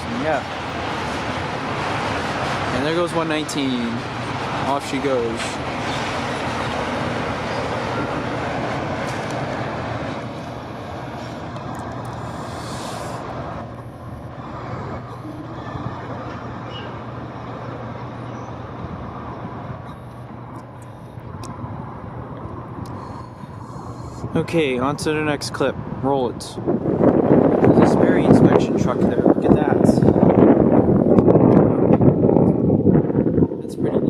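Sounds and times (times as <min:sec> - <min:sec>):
freight train rolling: 0:00.0 - 0:32.2
low steady hum: 0:00.0 - 0:33.6.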